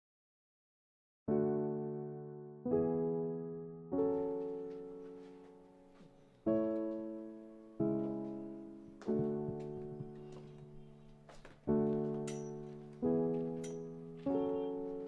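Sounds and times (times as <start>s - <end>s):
slow piano chords: 1.3s - 15.0s.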